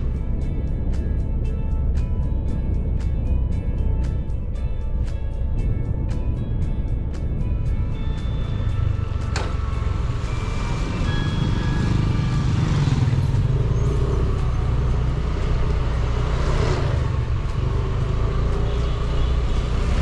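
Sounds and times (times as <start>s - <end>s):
vehicle driving rumble: 0.0s - 20.0s.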